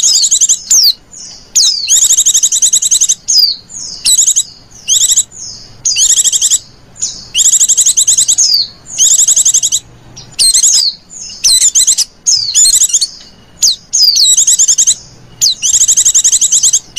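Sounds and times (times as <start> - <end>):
bird chattering trills: 0.0 - 16.9.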